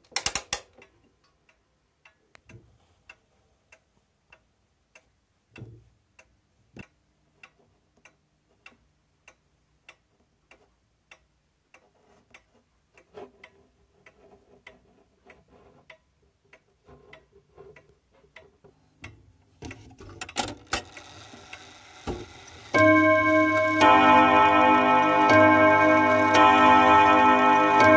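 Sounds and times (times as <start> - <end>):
clock ticking: 0.0 - 27.9.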